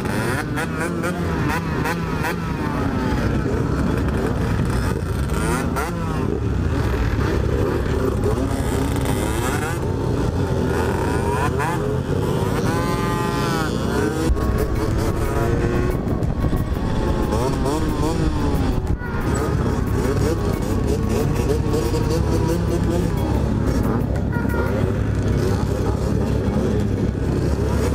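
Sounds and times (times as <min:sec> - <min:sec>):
motorcycles revving and pulling away: 0:00.0 - 0:27.9
nearby engine revving sharply: 0:00.0 - 0:27.9.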